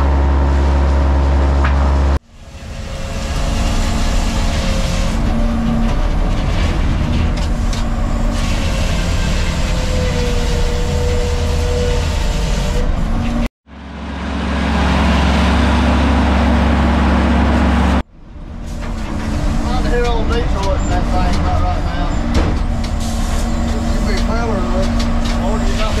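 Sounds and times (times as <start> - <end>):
diesel power unit droning: 0.0 - 26.0
sawmill machinery running: 0.0 - 26.0.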